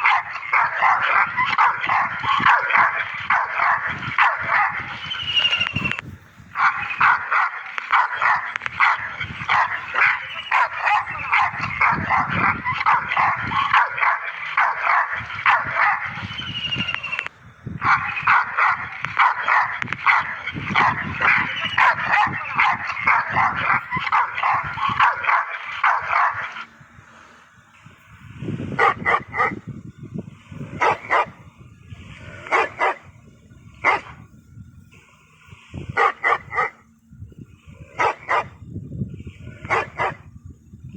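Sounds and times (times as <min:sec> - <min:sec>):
dogs barking: 0:00.0 - 0:28.0, 0:28.6 - 0:29.7, 0:30.6 - 0:34.3, 0:35.7 - 0:37.0, 0:37.6 - 0:38.6, 0:39.2 - 0:40.3.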